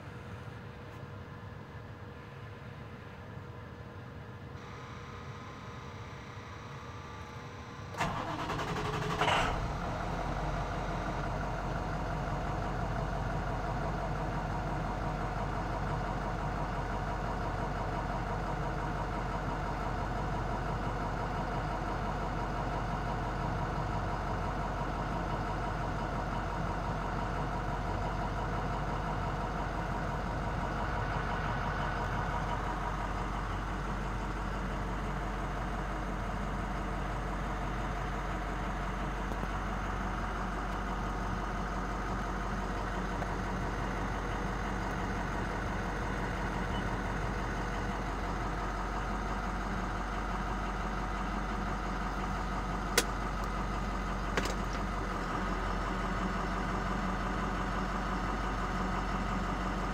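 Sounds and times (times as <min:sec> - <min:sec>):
diesel engine starting and idling: 0:04.6 - 0:59.9.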